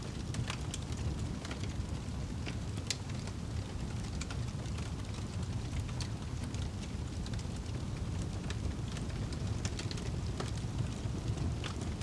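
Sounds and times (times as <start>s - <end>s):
low rumble of flames: 0.0s - 12.0s
wood fire crackling: 0.0s - 12.0s.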